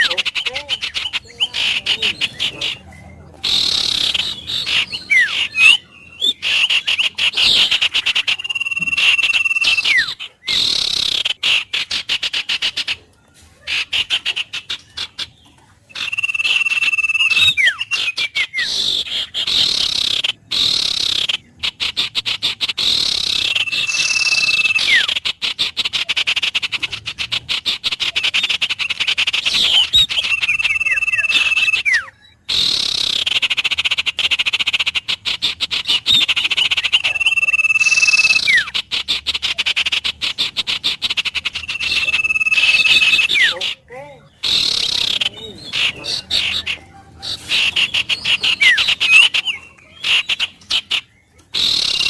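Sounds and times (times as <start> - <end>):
wild birds trilling and chirping: 0.0 - 52.0.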